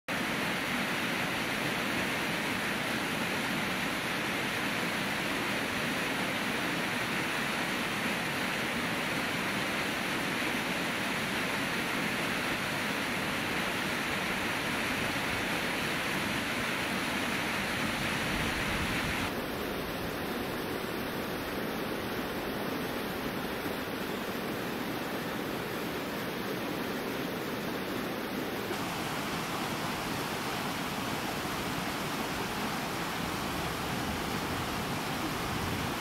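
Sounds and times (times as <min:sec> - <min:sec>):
water rushing over rocks: 0:00.1 - 0:36.0.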